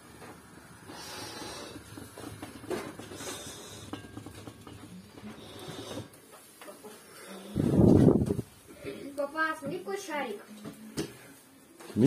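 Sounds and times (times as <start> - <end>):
pot of water heating: 0.0 - 10.0.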